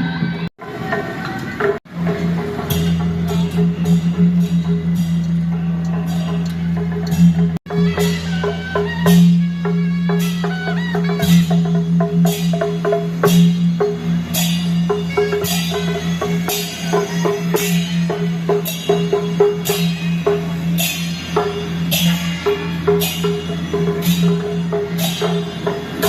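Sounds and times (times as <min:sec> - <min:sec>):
drum strokes: 0:00.1 - 0:26.0
cymbal crashes: 0:01.9 - 0:26.0.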